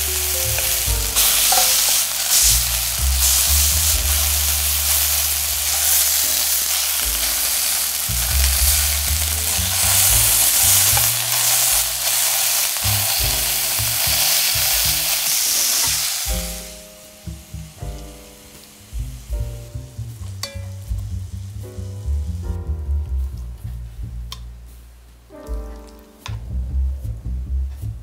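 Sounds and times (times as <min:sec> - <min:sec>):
meatballs sizzling in oil: 0:00.0 - 0:22.6.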